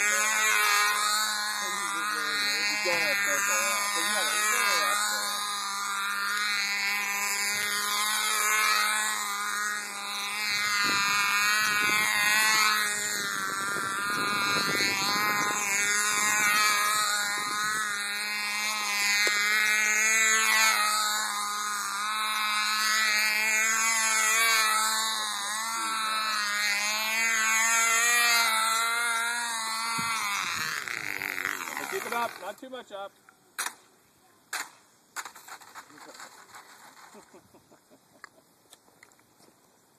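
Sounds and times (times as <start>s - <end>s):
model airplane engine buzzing: 0.0s - 33.8s.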